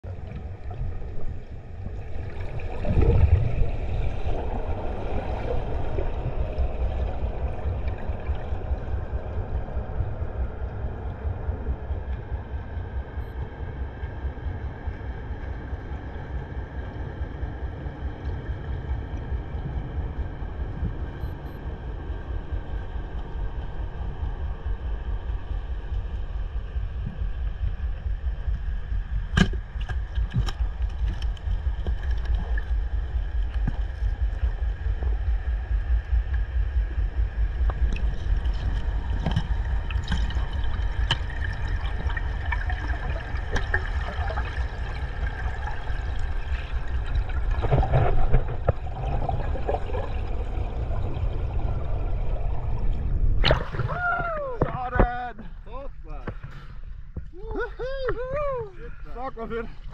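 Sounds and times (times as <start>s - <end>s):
rush of water: 0.0s - 12.6s, 14.1s - 55.4s
underwater rumble of water: 0.0s - 59.9s.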